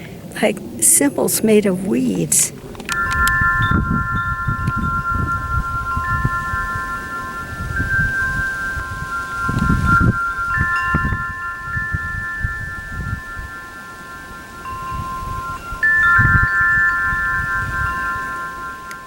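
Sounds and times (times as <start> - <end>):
wind rumble on microphone: 0.0 - 19.0
ringing chime-like tones: 2.9 - 19.0.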